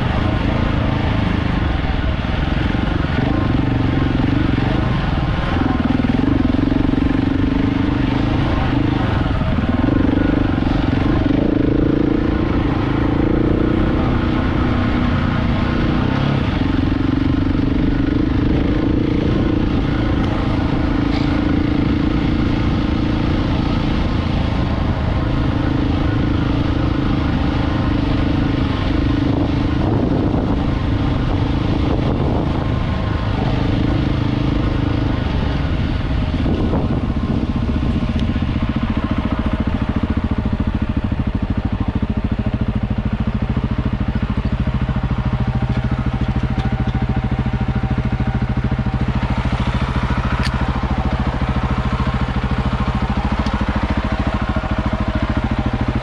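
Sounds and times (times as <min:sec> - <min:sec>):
low wind rumble: 0:00.0 - 0:56.0
motorcycle engine running: 0:00.0 - 0:56.0.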